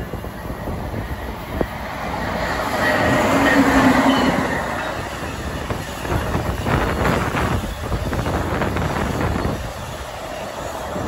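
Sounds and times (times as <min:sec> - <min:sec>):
steady whining tones: 0:00.0 - 0:11.0
train wheels rumbling on rails: 0:00.0 - 0:11.0.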